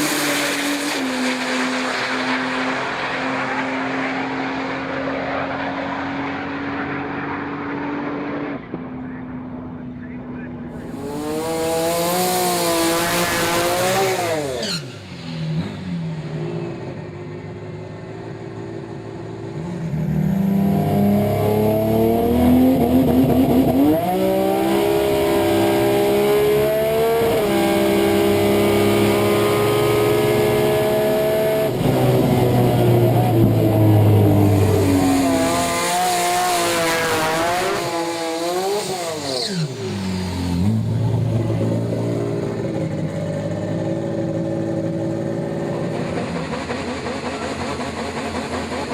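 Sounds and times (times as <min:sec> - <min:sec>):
car engine accelerating through gears: 0:00.0 - 0:09.7, 0:10.7 - 0:17.0, 0:19.0 - 0:48.9.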